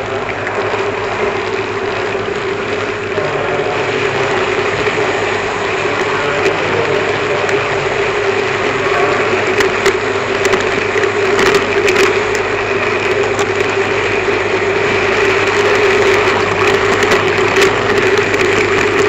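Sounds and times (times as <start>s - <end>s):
model train whine and rattle: 0.0s - 19.0s.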